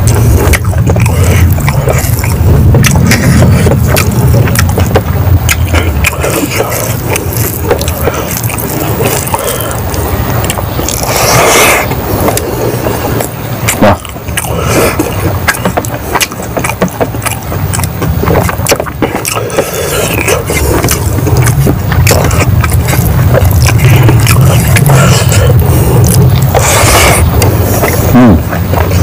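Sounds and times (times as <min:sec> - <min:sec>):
chewing and lip-smacking: 0:00.0 - 0:29.0
low rumble: 0:00.0 - 0:29.0.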